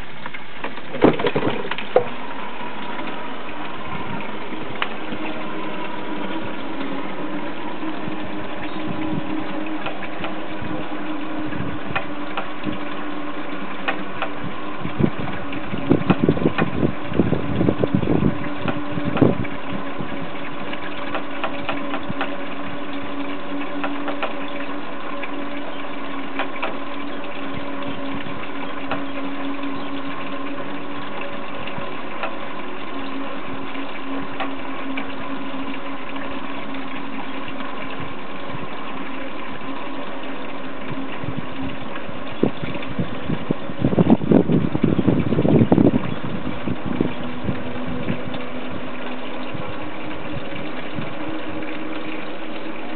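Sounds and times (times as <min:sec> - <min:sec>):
ropeway drive humming: 0:00.0 - 0:52.9.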